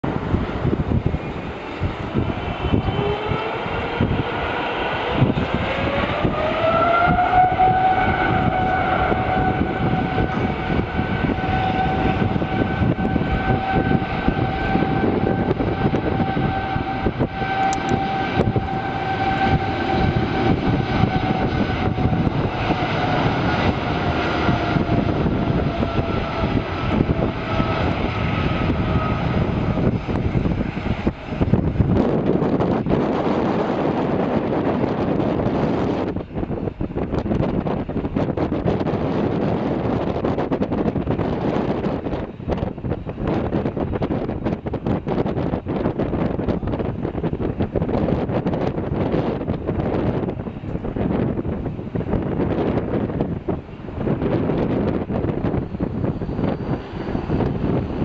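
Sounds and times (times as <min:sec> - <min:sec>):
jet engine roar: 0:00.0 - 0:58.0
jet engine whine: 0:00.0 - 0:58.0.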